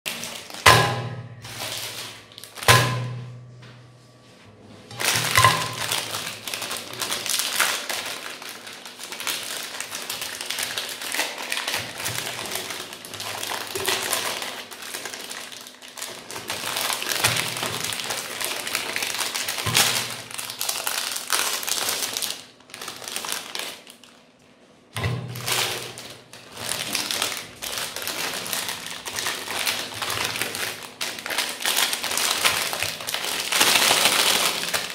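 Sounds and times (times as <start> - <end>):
plastic wrappers crinkling and tearing: 0.1 - 3.0, 4.9 - 34.9.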